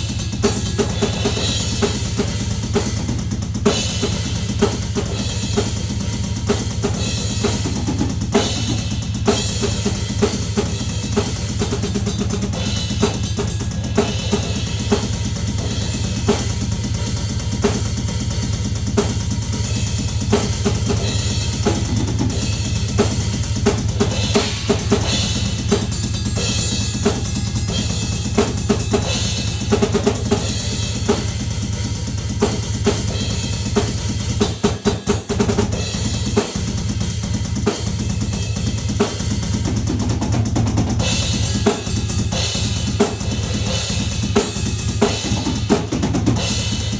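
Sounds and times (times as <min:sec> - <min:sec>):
drum kit playing: 0:00.0 - 0:46.9.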